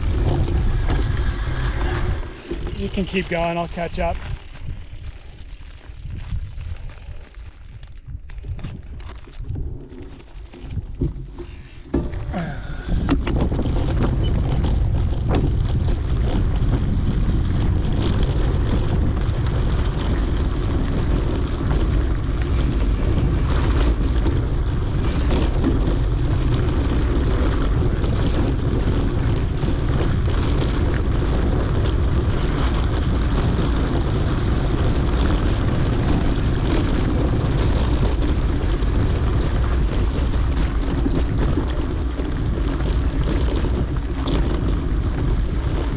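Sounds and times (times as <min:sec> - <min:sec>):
bike clicks and knocks: 0:00.0 - 0:45.9
wind buffeting microphone: 0:00.0 - 0:45.9.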